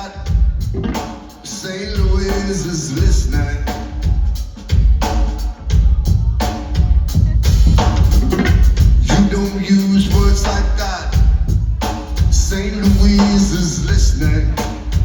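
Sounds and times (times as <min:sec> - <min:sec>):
drum kit: 0:00.0 - 0:15.0
live band playing: 0:00.0 - 0:15.0
deep bass line: 0:01.8 - 0:15.0.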